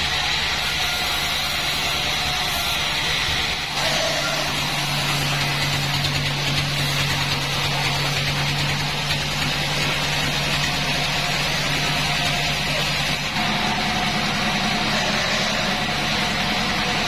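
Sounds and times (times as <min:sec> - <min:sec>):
band saw running: 0:00.0 - 0:17.0.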